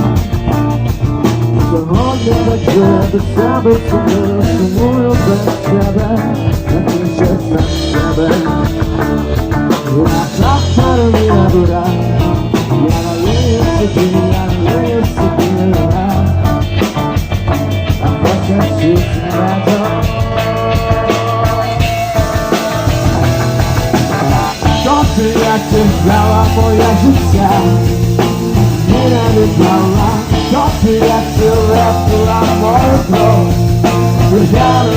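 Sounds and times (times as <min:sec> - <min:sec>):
drum kit beat: 0:00.0 - 0:34.9
rock band playing: 0:00.0 - 0:34.9.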